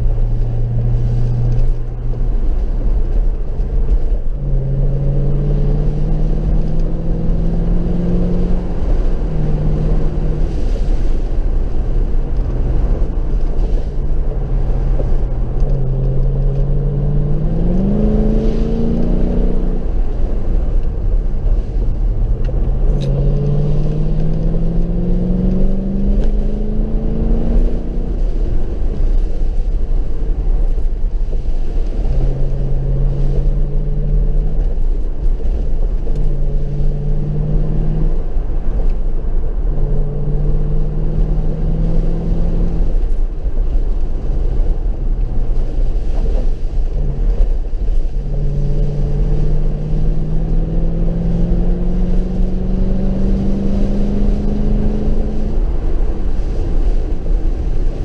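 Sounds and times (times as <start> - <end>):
car engine accelerating: 0.0 - 58.0
deep road rumble: 0.0 - 58.0.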